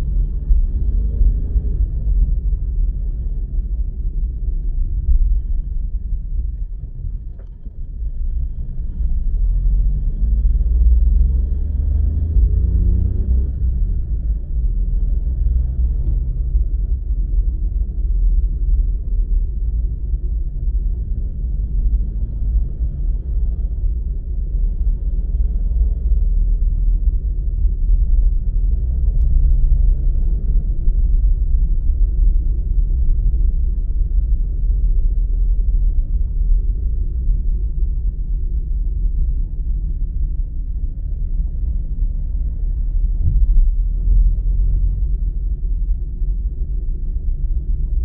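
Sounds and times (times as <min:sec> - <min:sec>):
car engine and tyre noise: 0:00.0 - 0:48.0
vehicle rumble from inside: 0:00.0 - 0:48.0.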